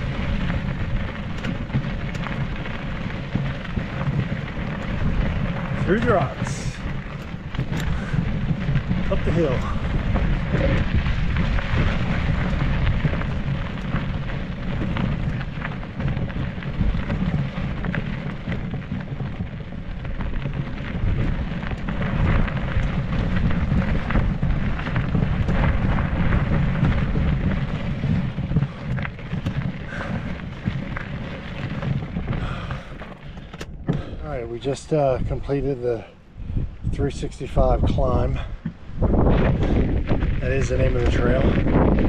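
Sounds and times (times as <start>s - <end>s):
tyres crunching over grit: 0.0s - 36.2s, 36.9s - 42.0s
bike handling noise: 0.0s - 42.0s
wind rumble: 0.0s - 42.0s.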